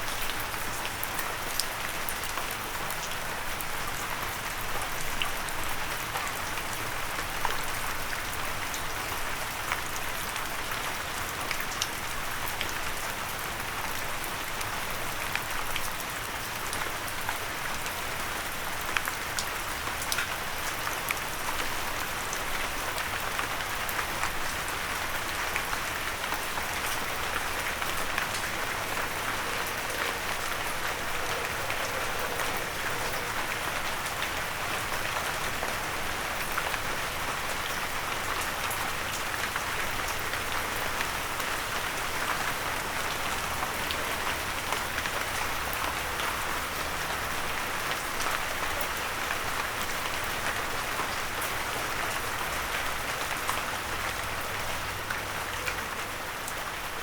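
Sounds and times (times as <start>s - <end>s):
rain pattering on a windowsill: 0.0s - 57.0s.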